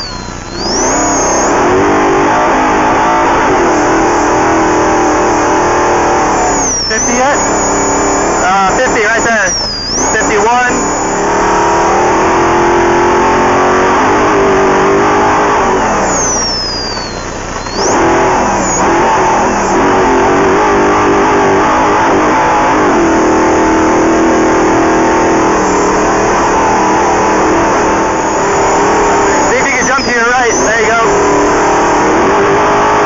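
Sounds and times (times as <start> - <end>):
race vehicle engine accelerating hard: 0.0 - 33.0.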